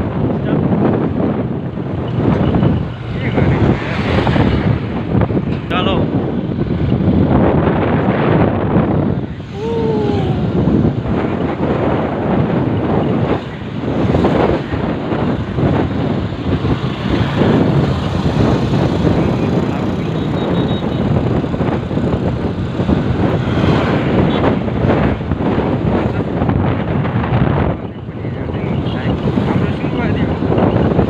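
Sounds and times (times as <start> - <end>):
road noise: 0.0 - 31.0
wind buffeting microphone: 0.0 - 31.0.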